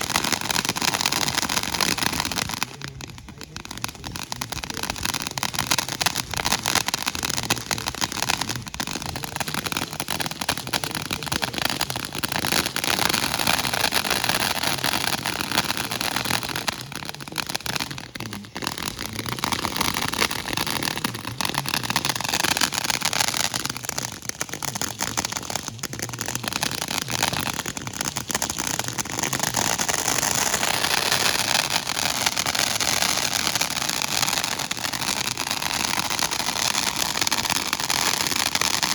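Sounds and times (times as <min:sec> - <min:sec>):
fireworks hissing and crackling: 0:00.0 - 0:38.9.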